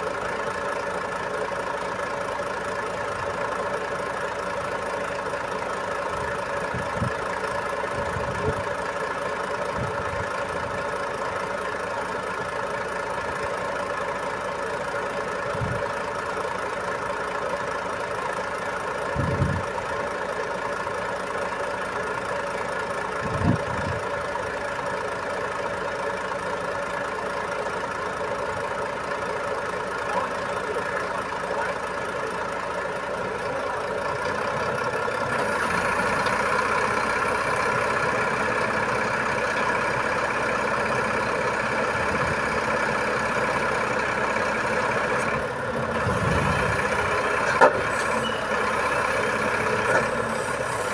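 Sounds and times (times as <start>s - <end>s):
truck engine idling: 0.0s - 50.9s.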